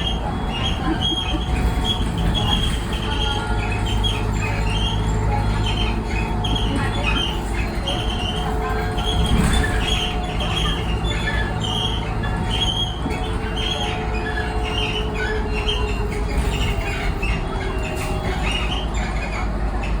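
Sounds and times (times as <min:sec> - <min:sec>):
bus body high-pitched squeaks: 0:00.0 - 0:20.0
moving bus low rumble: 0:00.0 - 0:20.0.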